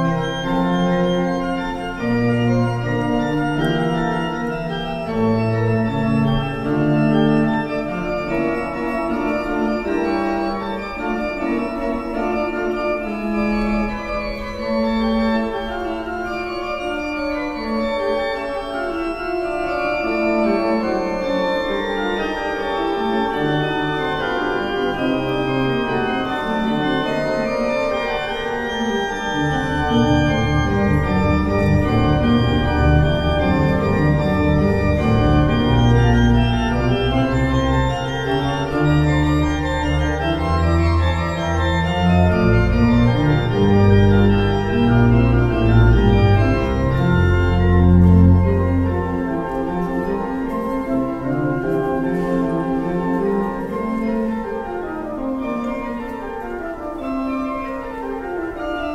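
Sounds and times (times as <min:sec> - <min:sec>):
pipe organ playing: 0:00.0 - 0:58.9.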